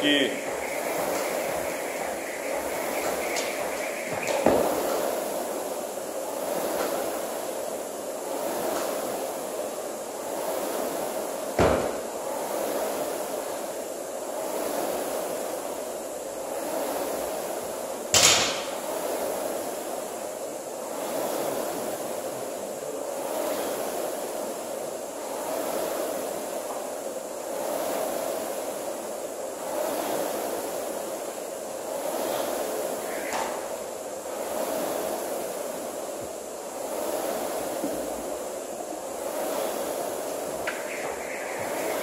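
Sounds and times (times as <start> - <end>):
rowing machine fan whooshing: 0.0 - 42.0.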